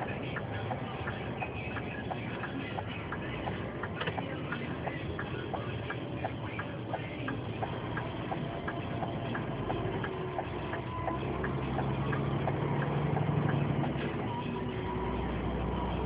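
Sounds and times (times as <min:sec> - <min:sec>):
turn signal ticking: 0:00.0 - 0:16.0
vehicle engine drone: 0:00.0 - 0:16.0.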